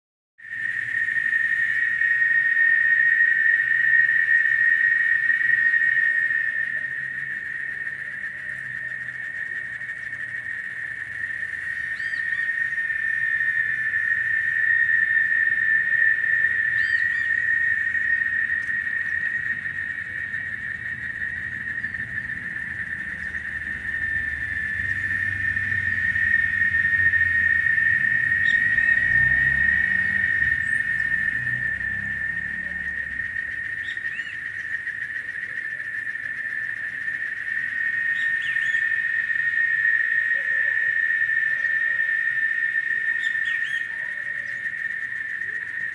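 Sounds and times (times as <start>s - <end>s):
cicadas droning: 0.4s - 45.9s.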